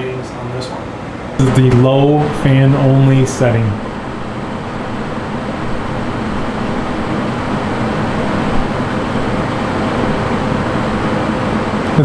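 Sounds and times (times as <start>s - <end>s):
air conditioner fan rushing air: 0.0s - 12.0s
low hum: 1.2s - 12.0s.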